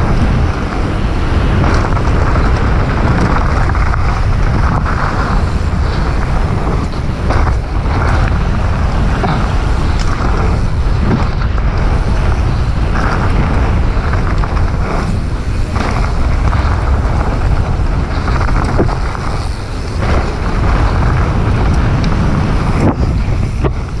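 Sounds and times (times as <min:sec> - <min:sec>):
bike knocks and rattles: 0:00.0 - 0:24.0
tyre and wind rush: 0:00.0 - 0:24.0.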